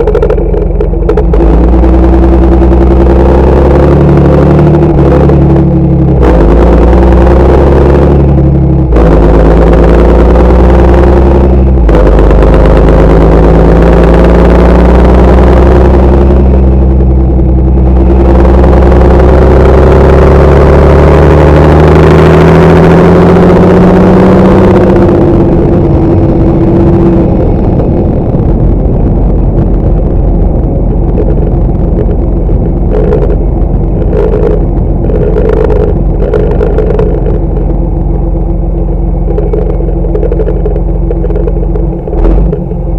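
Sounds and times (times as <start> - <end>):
diesel tractor engine under load: 0.0 - 42.9.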